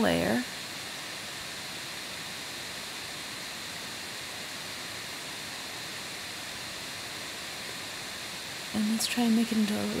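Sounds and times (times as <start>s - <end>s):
faint high-pitched whine: 0.0s - 10.0s
recording hiss: 0.0s - 10.0s.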